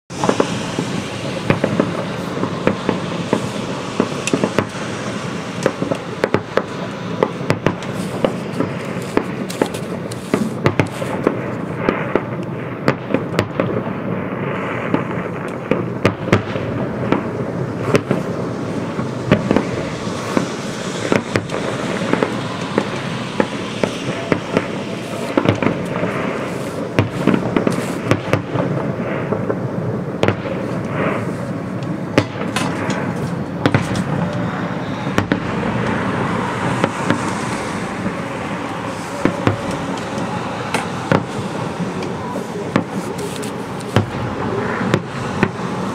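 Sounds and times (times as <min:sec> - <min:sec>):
firework shells bursting: 0:00.1 - 0:45.9
steady wash of noise: 0:00.1 - 0:45.9.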